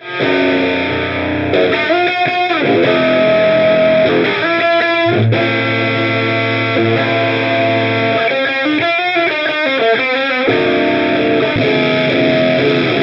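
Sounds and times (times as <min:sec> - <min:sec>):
overdriven electric guitar: 0:00.0 - 0:13.0.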